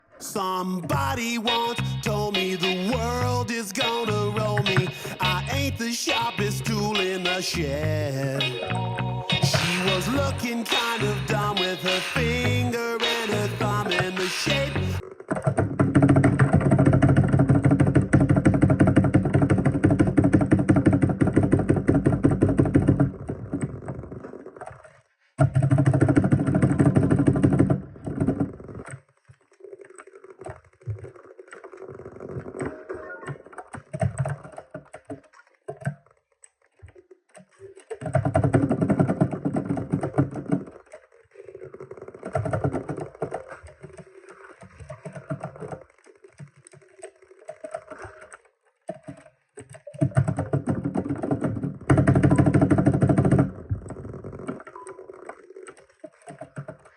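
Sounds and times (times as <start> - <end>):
rapid keyboard typing: 9.4 - 29.0, 29.6 - 41.0, 41.6 - 56.9.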